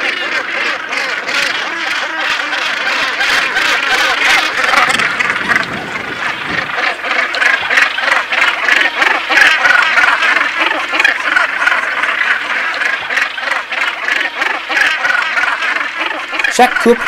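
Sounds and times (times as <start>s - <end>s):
seabird colony calling: 0.0s - 17.0s.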